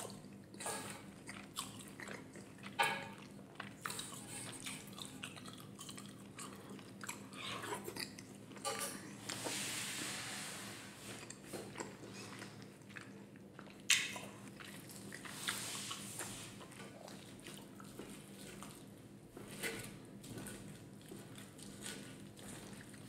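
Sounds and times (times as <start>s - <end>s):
chewing steak: 0.0s - 9.6s, 11.0s - 23.0s.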